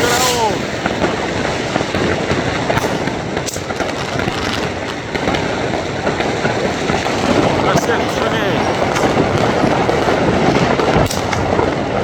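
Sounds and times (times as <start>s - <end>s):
fireworks crackling: 0.0s - 12.0s
sharp firework reports: 0.0s - 12.0s.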